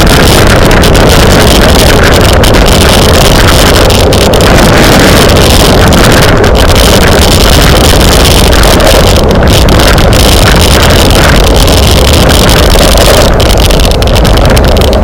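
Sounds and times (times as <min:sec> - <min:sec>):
wind roaring on microphone: 0:00.0 - 0:15.0.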